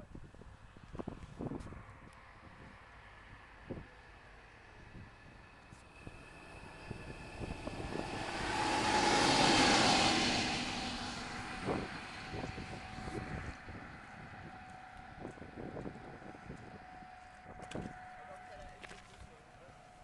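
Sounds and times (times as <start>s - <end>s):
diesel locomotive passing: 1.8s - 20.0s.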